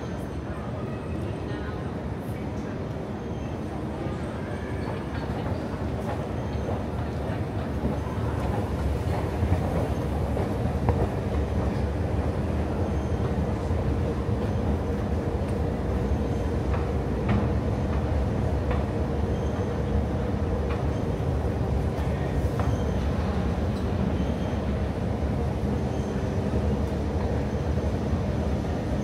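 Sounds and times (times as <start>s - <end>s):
underground train rumbling: 0.0s - 29.0s.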